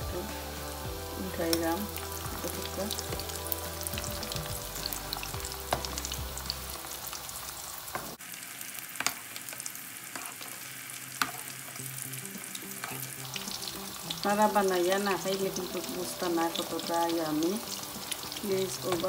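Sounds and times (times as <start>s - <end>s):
food frying in hot oil: 0.0s - 19.0s.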